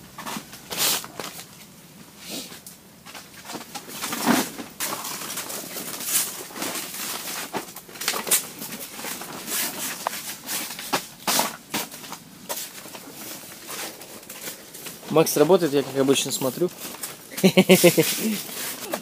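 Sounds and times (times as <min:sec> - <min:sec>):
tent fabric rustling and crackling: 0:00.1 - 0:19.0.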